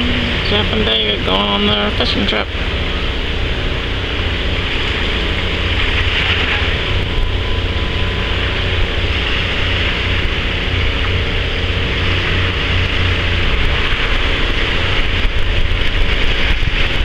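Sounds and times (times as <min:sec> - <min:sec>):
outboard motors idling: 0:00.0 - 0:17.0
wind noise on microphone: 0:00.0 - 0:17.0.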